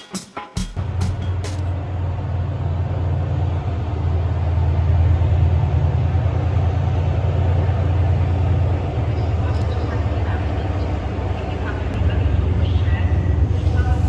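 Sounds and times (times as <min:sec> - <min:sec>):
train rumbling: 0:00.6 - 0:14.0.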